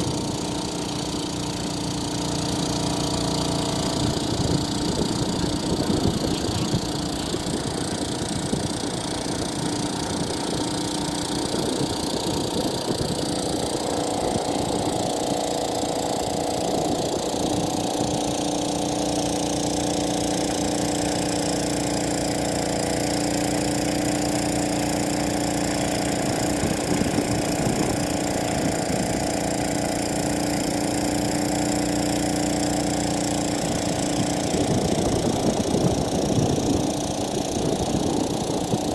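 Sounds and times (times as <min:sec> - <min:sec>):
drone rotors humming: 0:00.0 - 0:38.9.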